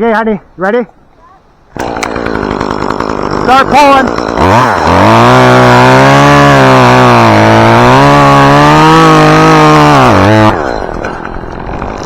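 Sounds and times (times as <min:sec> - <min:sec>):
chainsaw cutting wood: 0:01.7 - 0:12.0.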